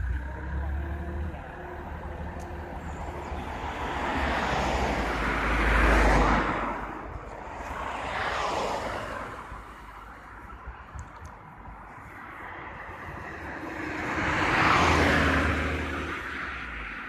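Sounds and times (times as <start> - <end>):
car driving by: 0.0 - 9.6, 12.4 - 17.0
quieter vehicle passing: 0.0 - 17.0.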